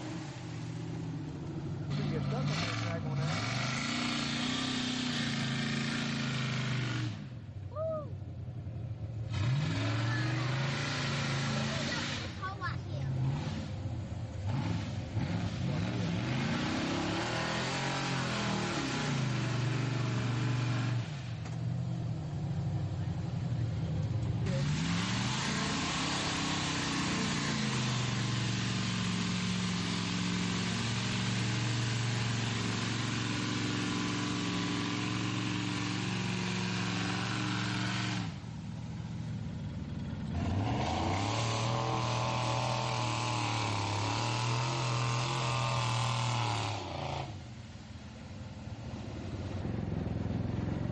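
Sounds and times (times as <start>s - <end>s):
tyres spinning and spraying mud: 0.0s - 7.2s, 9.2s - 50.9s
truck engine revving: 0.0s - 7.9s, 8.6s - 47.7s.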